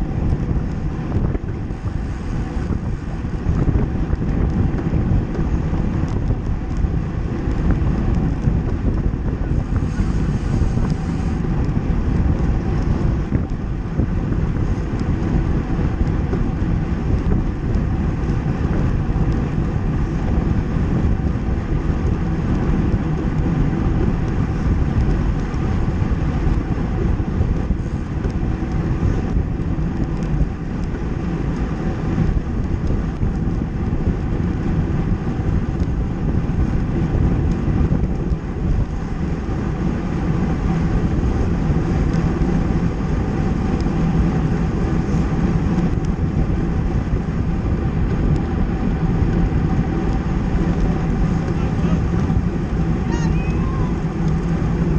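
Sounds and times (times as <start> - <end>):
tyre noise on road: 0.0 - 54.9
wind rushing over microphone: 0.0 - 54.9.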